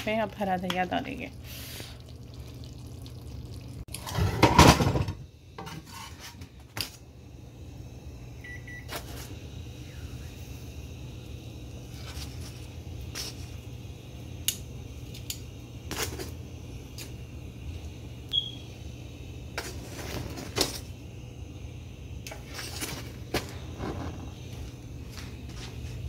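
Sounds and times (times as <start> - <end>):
steady low hum: 4.7 - 26.0.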